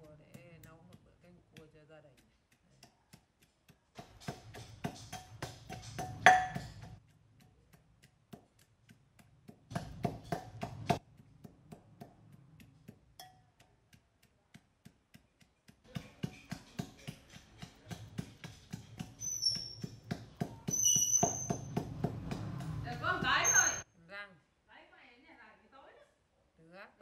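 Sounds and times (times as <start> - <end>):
metal pestle pounding in mortar: 0.0 - 23.8.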